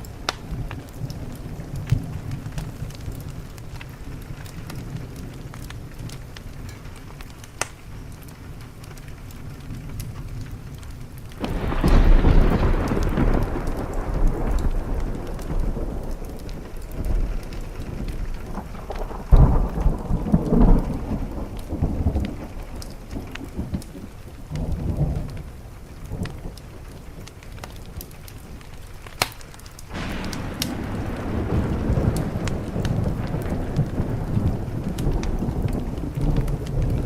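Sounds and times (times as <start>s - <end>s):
rain on a window: 0.0s - 37.0s
thunder rumbling: 0.0s - 37.0s
wood fire crackling: 0.0s - 37.0s.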